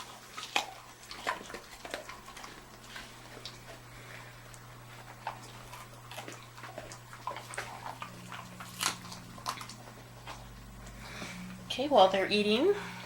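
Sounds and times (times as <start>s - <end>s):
dogs chewing treats: 0.0s - 13.0s.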